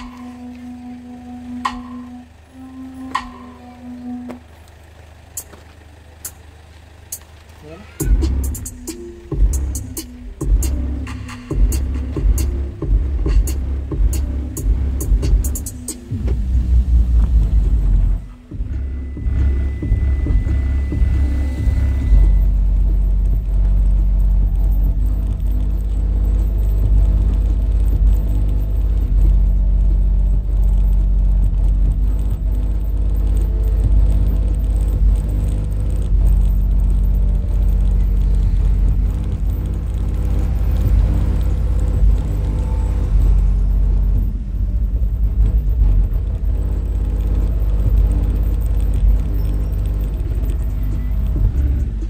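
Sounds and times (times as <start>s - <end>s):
deep subwoofer bass: 0.0s - 4.6s, 7.1s - 52.0s.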